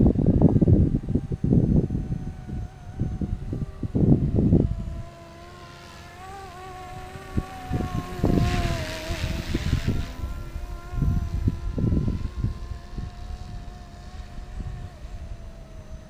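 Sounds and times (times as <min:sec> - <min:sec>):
model helicopter whine: 0:00.0 - 0:16.0
wind buffeting microphone: 0:00.0 - 0:16.0.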